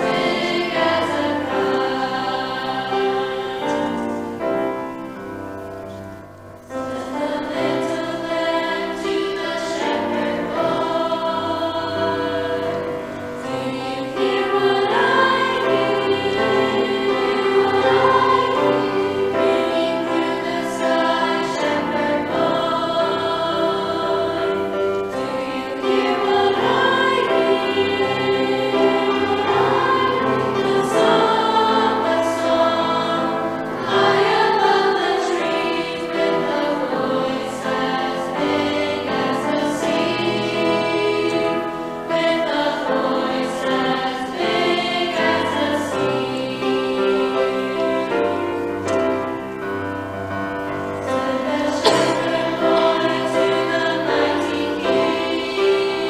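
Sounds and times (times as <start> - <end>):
choir singing: 0.0 - 56.0
grand piano: 0.0 - 56.0.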